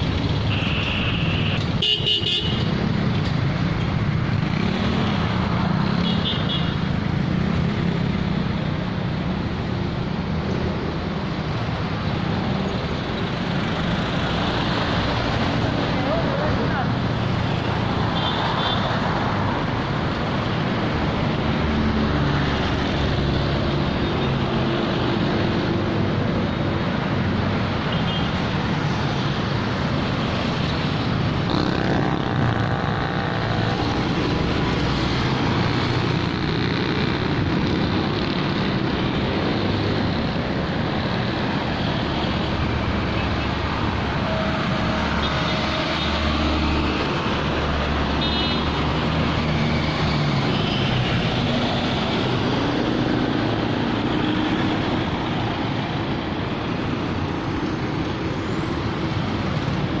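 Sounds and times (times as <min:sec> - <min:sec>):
traffic noise: 0:00.0 - 1:00.0.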